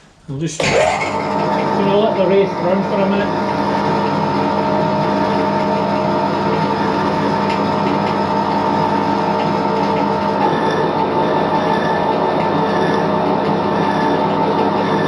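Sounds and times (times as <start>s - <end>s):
lathe humming with whine: 0.6s - 15.0s.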